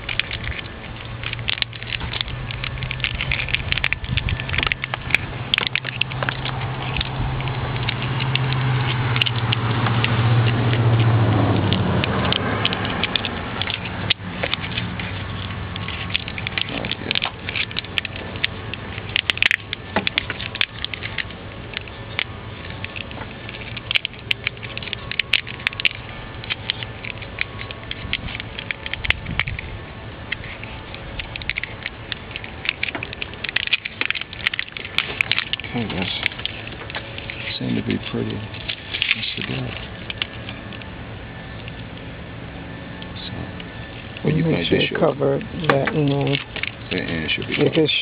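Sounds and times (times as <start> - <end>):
crackles of plastic tubing handled: 0.0 - 48.0
low hum: 0.0 - 48.0.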